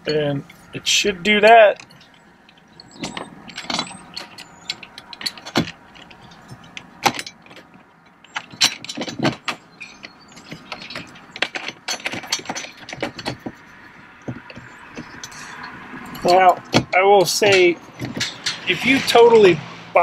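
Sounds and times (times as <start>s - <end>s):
metal bracket clinking and scraping: 0.0s - 20.0s.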